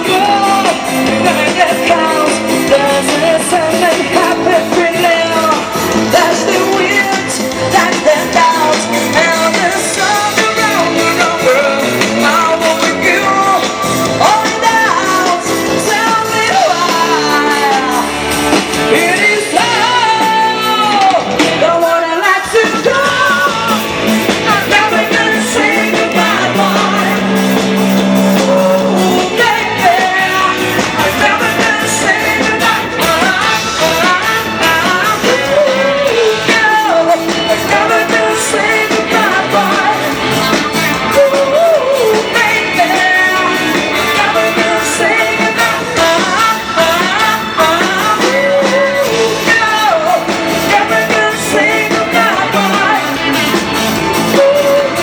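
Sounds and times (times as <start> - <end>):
live pop-rock band: 0.0 - 55.0
person singing: 0.0 - 55.0.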